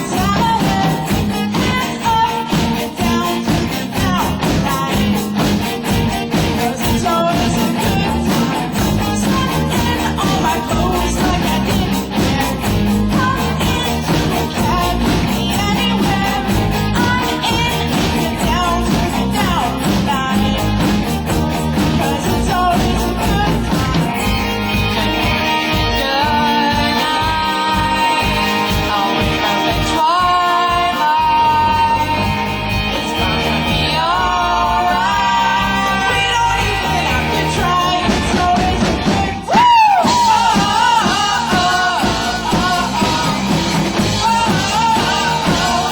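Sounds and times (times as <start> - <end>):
rock music with singing: 0.0 - 45.9.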